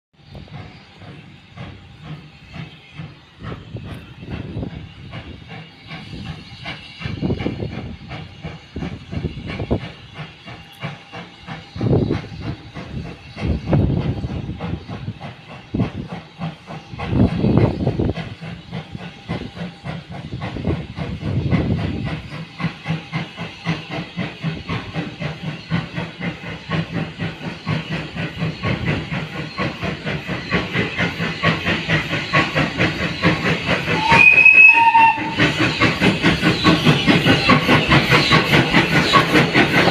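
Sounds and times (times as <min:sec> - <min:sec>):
steam locomotive chuffing: 0:00.2 - 0:39.9.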